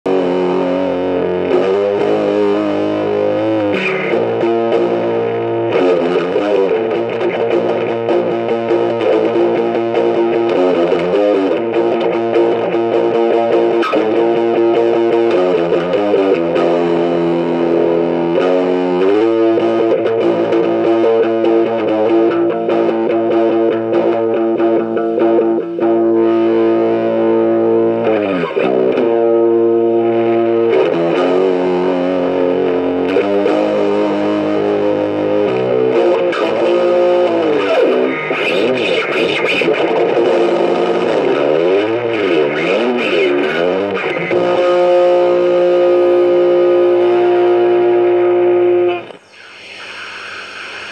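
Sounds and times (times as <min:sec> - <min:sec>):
distorted electric guitar: 0:00.0 - 0:50.9.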